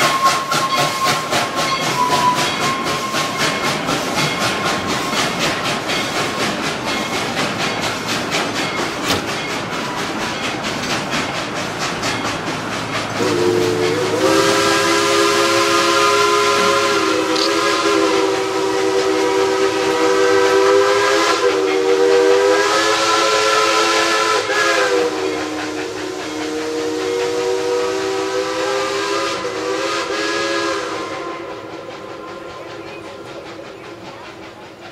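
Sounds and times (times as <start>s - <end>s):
steam locomotive chime whistle: 0.0s - 8.0s, 13.2s - 34.5s
locomotive exhaust beats: 0.0s - 34.9s
steam hiss: 0.0s - 34.9s.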